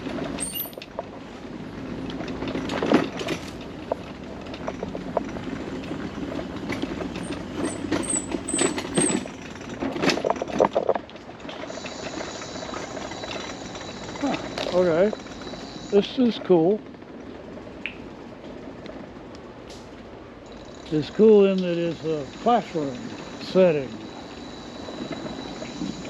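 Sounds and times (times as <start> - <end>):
scooter motor rumble: 0.0 - 26.0.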